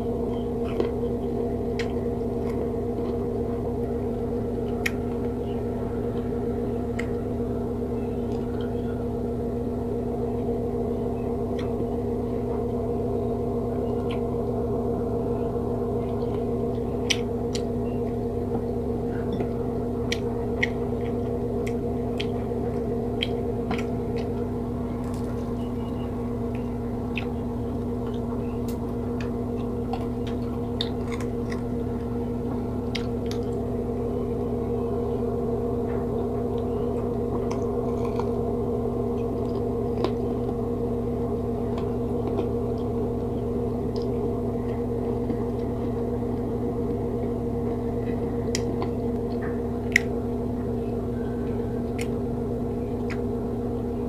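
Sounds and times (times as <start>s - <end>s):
steady low hum: 0.0s - 54.0s
chewing crunchy food: 0.1s - 9.2s, 10.4s - 53.4s.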